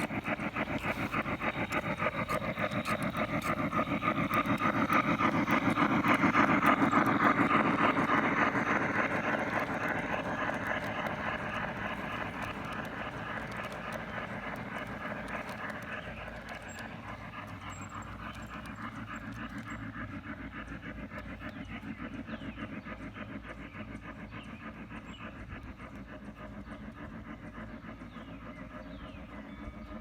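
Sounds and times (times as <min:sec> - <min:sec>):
model train wheels clattering: 0:00.0 - 0:29.4.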